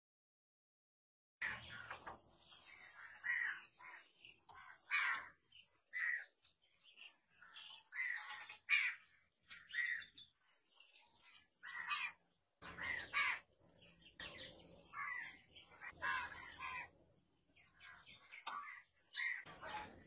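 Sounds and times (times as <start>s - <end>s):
birds calling: 1.4s - 20.0s.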